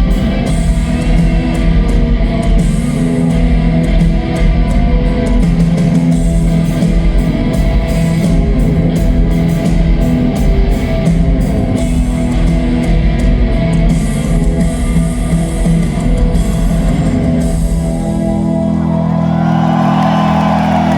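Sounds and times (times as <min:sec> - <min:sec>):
drum kit: 0:00.0 - 0:20.9
electric guitars: 0:00.0 - 0:20.9
rock band playing live: 0:00.0 - 0:20.9.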